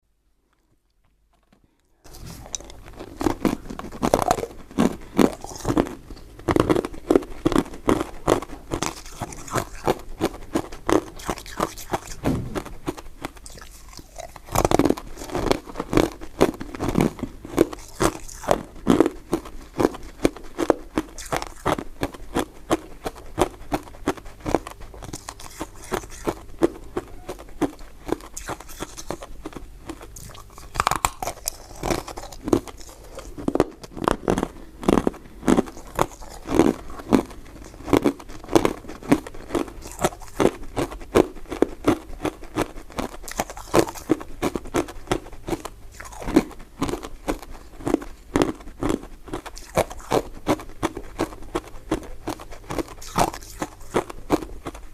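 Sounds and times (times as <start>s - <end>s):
chewing and crunching sweets: 0.1s - 54.9s.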